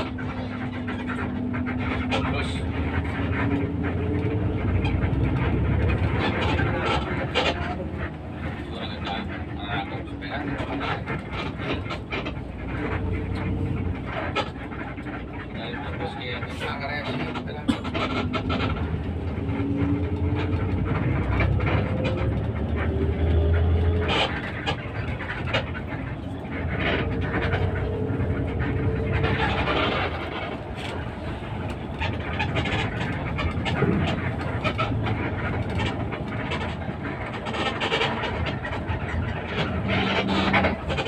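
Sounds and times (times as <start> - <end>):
bus engine whine: 0.0 - 41.0
road rumble: 0.0 - 41.0.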